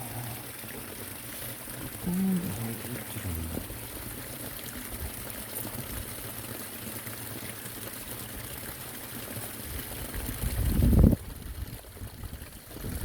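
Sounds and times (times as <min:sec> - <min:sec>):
water pouring over a weir: 0:00.0 - 0:13.0.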